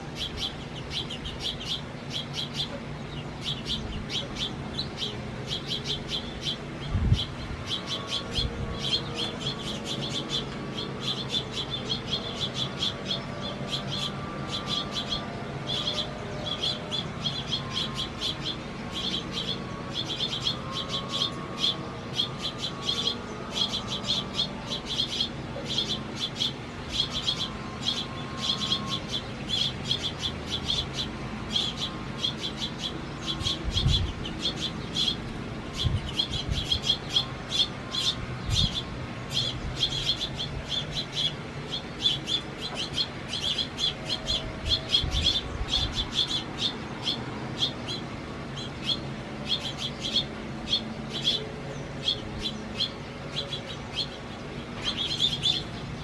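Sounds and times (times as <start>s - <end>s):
sparrows and finches chirping: 0.0s - 56.0s.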